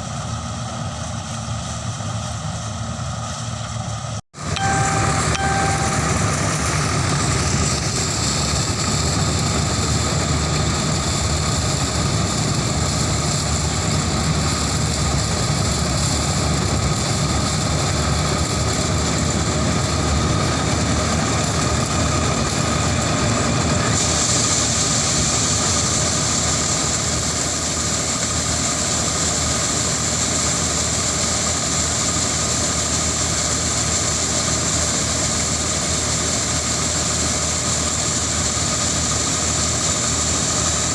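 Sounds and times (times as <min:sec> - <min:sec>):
machinery working noise: 0:00.0 - 0:40.9
high mechanical whine: 0:00.1 - 0:40.9.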